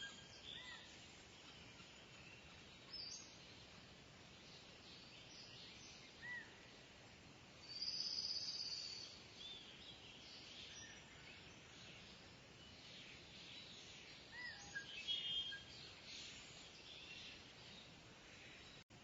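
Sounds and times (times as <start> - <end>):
bird calls: 0.0 - 3.8, 4.4 - 6.7, 7.6 - 18.8
steady high hiss: 0.0 - 19.0.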